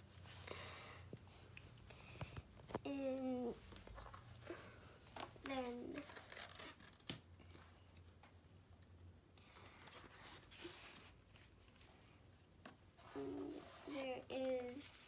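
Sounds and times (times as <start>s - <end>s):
book pages rustling: 1.2s - 8.3s, 9.4s - 15.0s.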